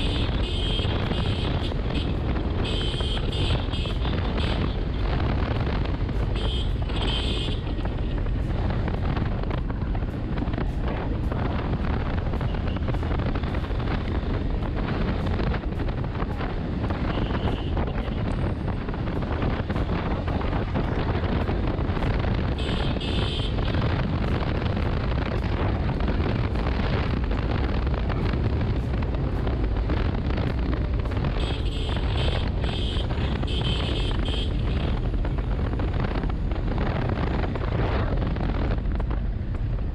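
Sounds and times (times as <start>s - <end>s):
motorcycle cruising: 0.0s - 39.9s
wind rush on microphone: 0.0s - 39.9s.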